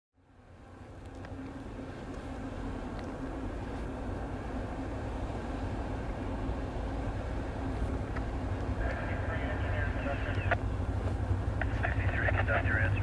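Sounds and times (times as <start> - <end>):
diesel locomotive rumble: 0.2 - 13.0.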